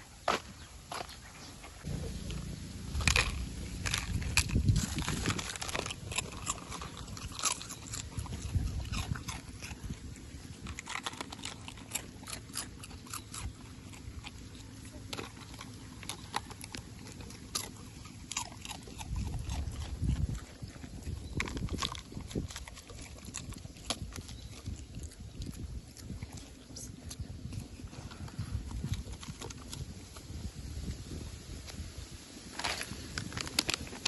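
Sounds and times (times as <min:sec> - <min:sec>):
dogs chewing and crunching food: 0:00.0 - 0:34.0.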